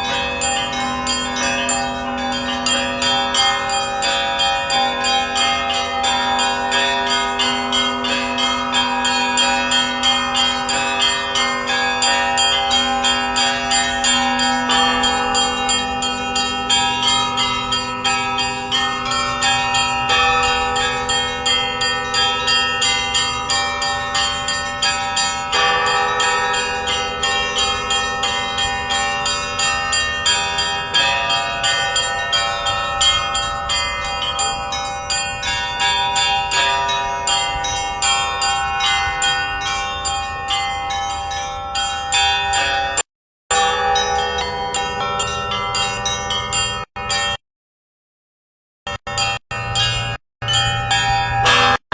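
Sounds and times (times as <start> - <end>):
large bells ringing: 0.0 - 47.4, 48.9 - 51.9
small bells struck rapidly: 0.0 - 47.4, 48.9 - 51.9.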